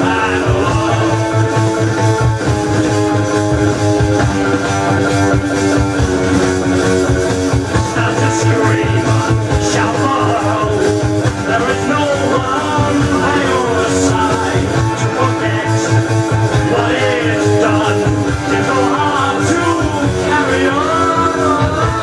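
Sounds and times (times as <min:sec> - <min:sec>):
hard rock with electric guitar: 0:00.0 - 0:22.0.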